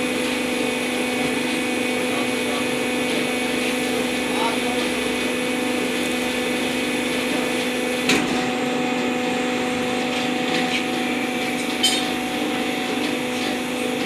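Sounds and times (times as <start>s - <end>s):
motor and pump hum: 0.0s - 14.0s.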